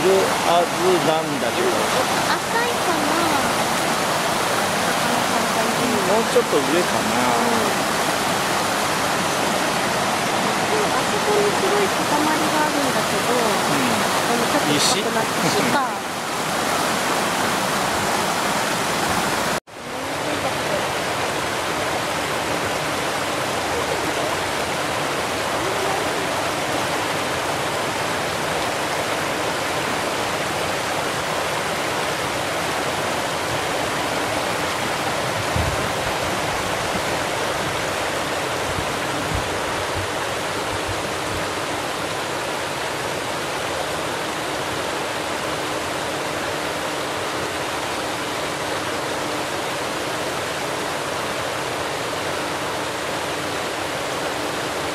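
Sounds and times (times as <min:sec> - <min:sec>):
river water rushing over weir: 0:00.0 - 0:54.9.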